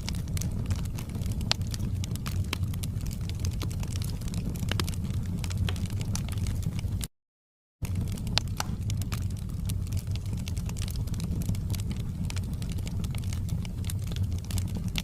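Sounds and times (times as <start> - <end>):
wood fire crackling and popping: 0.0 - 7.1, 7.8 - 15.0.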